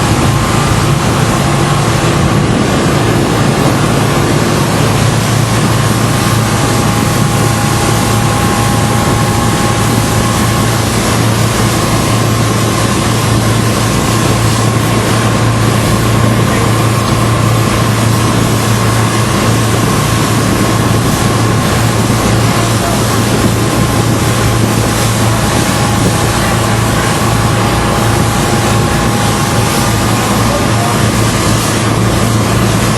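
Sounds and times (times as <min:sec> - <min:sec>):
motorboat engine droning: 0:00.0 - 0:32.9.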